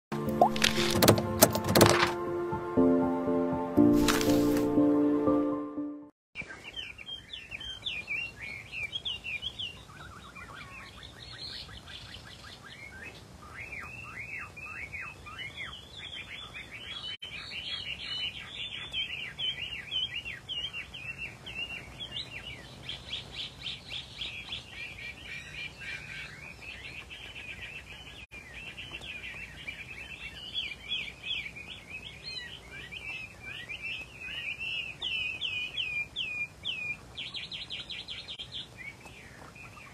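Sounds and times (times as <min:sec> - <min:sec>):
bird singing whistled notes: 0:06.4 - 0:26.9, 0:27.5 - 0:39.9.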